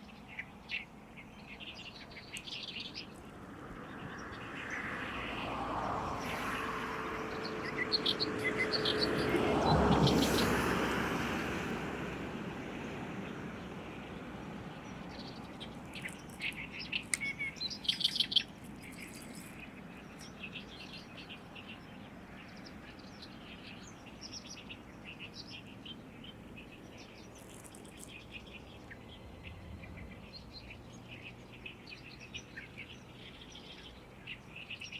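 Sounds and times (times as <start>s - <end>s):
reed warbler singing: 0.0s - 11.8s, 13.5s - 34.9s.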